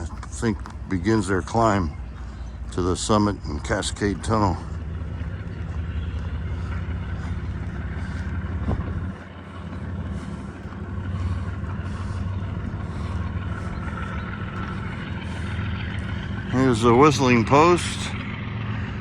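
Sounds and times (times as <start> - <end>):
diesel locomotive low drone: 0.0 - 19.0.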